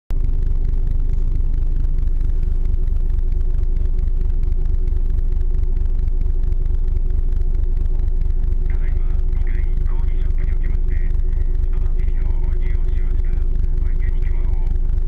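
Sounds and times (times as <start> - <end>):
ship engine rumbling: 0.1 - 15.0.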